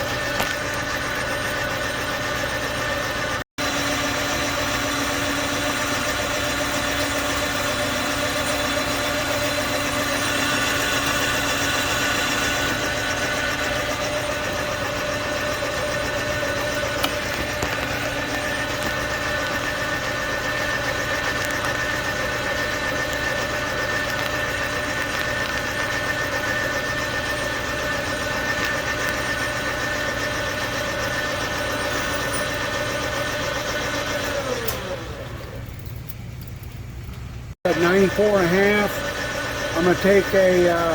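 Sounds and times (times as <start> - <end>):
machine tool humming and whining: 0.0 - 37.0, 37.6 - 40.9.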